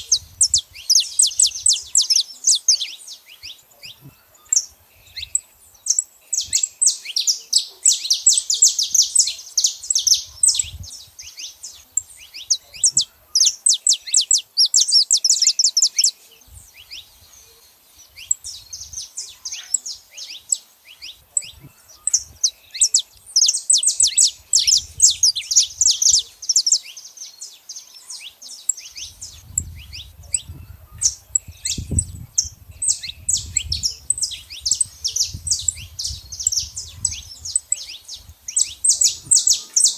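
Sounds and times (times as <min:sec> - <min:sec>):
finch chirping and singing: 0:00.0 - 0:39.9.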